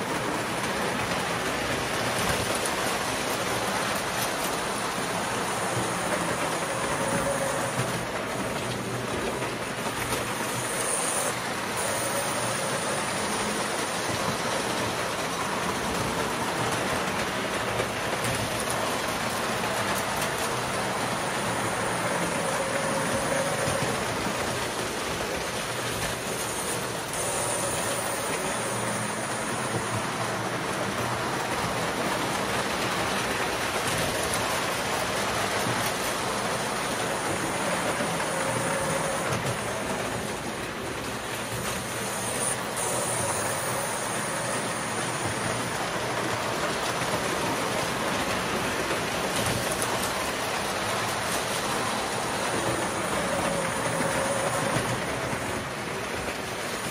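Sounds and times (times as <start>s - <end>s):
toy trains on metal track: 0.0s - 56.9s.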